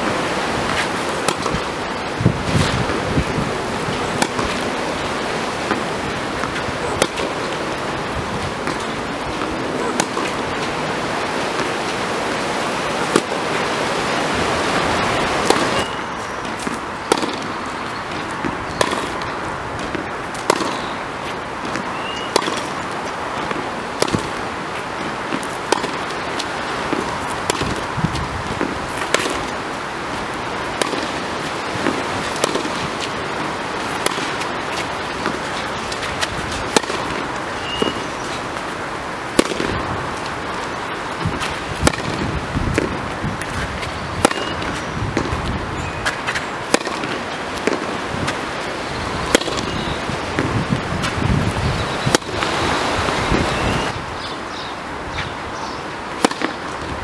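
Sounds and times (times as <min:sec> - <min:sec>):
steady rushing hiss: 0:00.0 - 0:57.0
tennis balls struck with rackets: 0:00.6 - 0:13.6, 0:14.7 - 0:53.8, 0:56.1 - 0:56.9.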